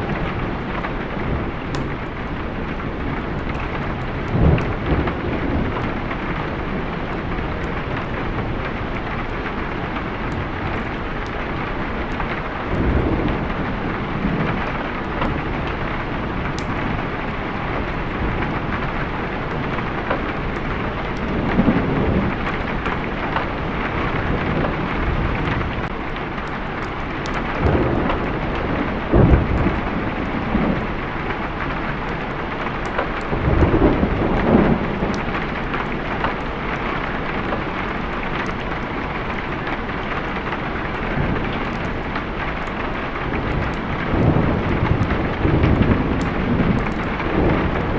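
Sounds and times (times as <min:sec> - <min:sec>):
rolling thunder: 0:00.0 - 0:47.9
steady rain: 0:00.0 - 0:47.9.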